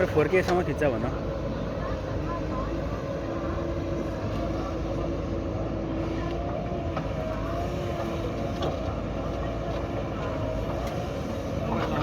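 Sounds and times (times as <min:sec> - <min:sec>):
diesel engine running with whine: 0:00.0 - 0:12.0.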